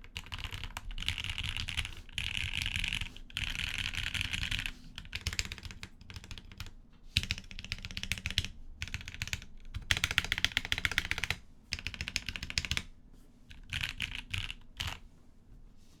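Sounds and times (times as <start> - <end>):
mechanical keyboard typing: 0.0 - 12.9, 13.5 - 15.0.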